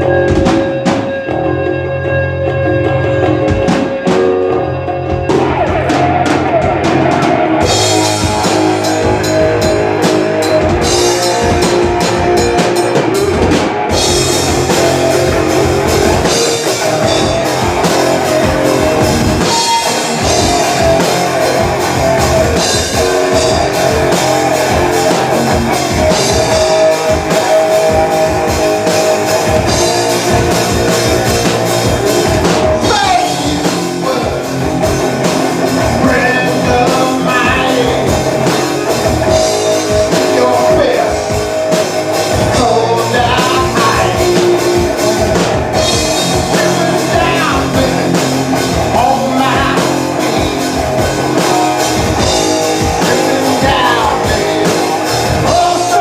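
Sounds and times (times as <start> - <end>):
drum kit strokes: 0.0 - 56.0
rock band playing: 0.0 - 56.0.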